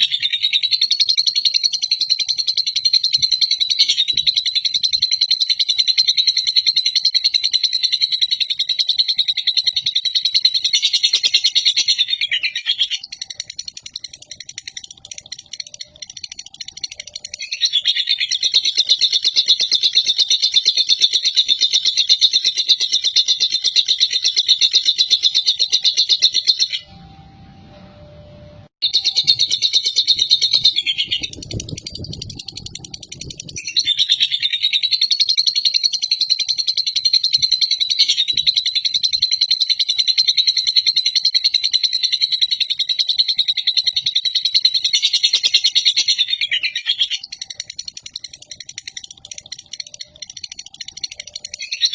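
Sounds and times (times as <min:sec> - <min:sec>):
lovebird high trilling chatter: 0:00.0 - 0:26.9, 0:28.8 - 0:41.7, 0:43.2 - 0:51.9.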